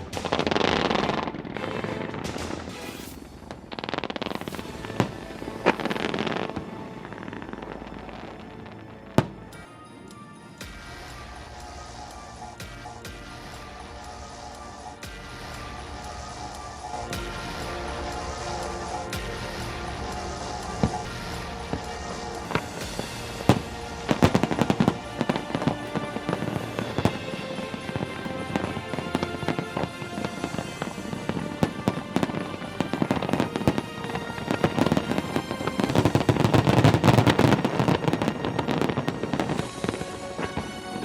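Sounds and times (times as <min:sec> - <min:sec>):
fireworks bangs and crackles: 0:00.0 - 0:41.0
music with held tones: 0:00.0 - 0:41.0.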